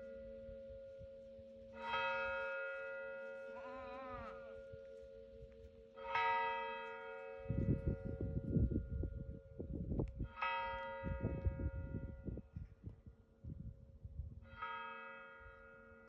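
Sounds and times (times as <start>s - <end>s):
church bell ringing: 0.0s - 12.6s, 14.5s - 16.0s.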